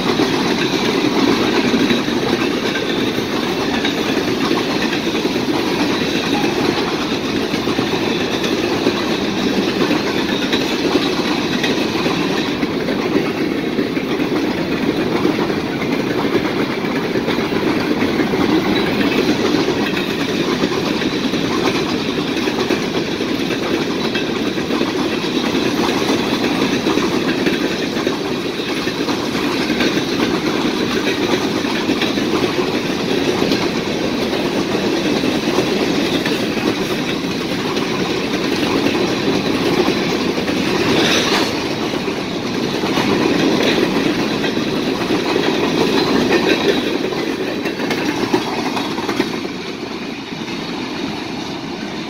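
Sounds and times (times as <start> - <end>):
freight train wheels clattering: 0.0 - 52.0.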